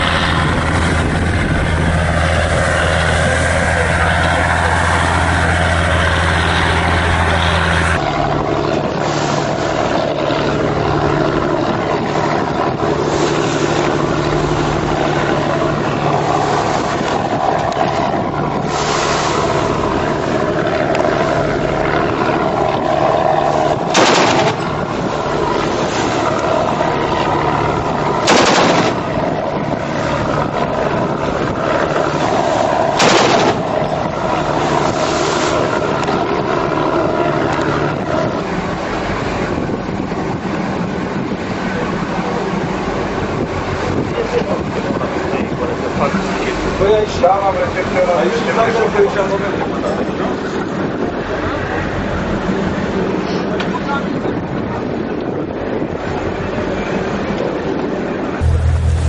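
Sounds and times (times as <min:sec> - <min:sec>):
boat engines running: 0:00.0 - 0:59.0.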